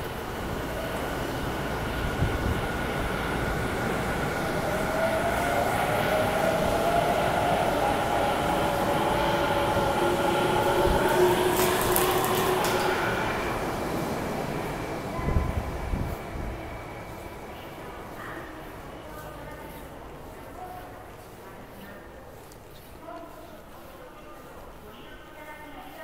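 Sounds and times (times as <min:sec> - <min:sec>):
train rumbling: 0:00.0 - 0:22.7.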